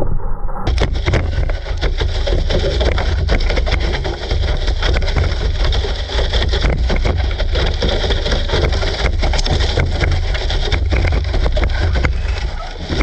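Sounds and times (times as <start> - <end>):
sled rattling and knocking: 0.7 - 13.0
toy car heavy rumble: 0.7 - 13.0.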